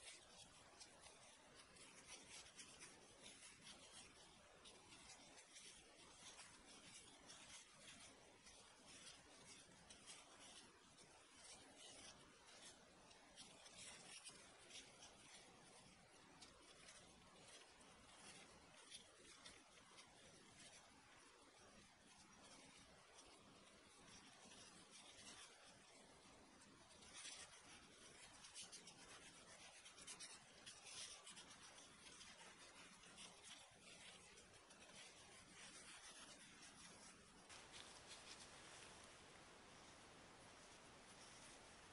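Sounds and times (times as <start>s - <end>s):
plastic gloves rustling: 0.0s - 41.9s.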